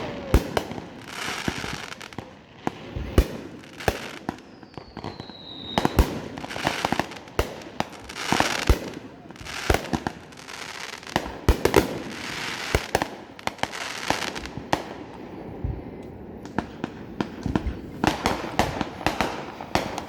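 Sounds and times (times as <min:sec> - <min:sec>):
fireworks bangs and pops: 0:00.0 - 0:20.0
fireworks crackling hiss: 0:00.0 - 0:20.0.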